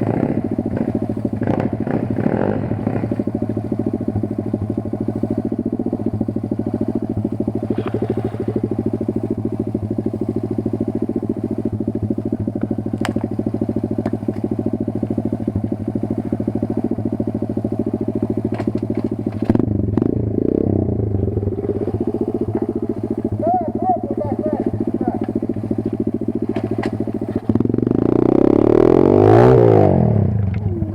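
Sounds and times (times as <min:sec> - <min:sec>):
motorcycle engine idling: 0:00.0 - 0:30.9.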